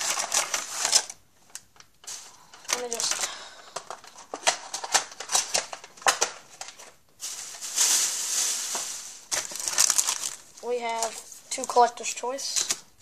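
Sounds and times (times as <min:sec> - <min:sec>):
card pack wrappers rustling: 0:00.0 - 0:12.9.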